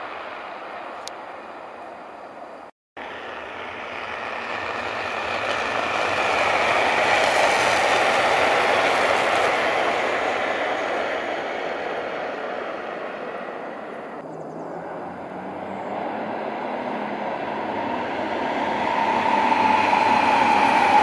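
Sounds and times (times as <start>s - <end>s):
train rushing past: 3.0s - 21.0s.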